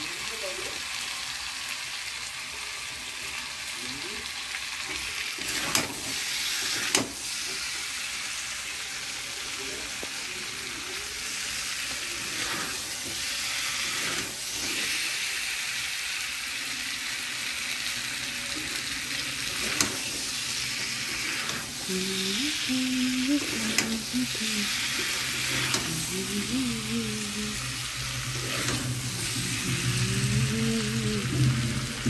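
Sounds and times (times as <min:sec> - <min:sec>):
chicken sizzling in a pan: 0:00.0 - 0:32.0.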